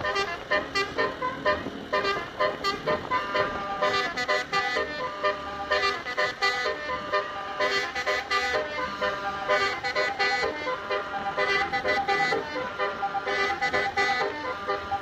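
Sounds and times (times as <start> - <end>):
musical bus horn melody: 0.0 - 15.0.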